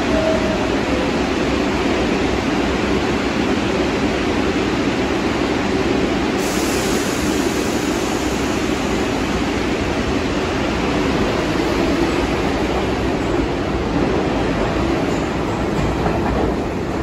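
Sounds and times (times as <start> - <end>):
subway train rushing: 0.0 - 17.0.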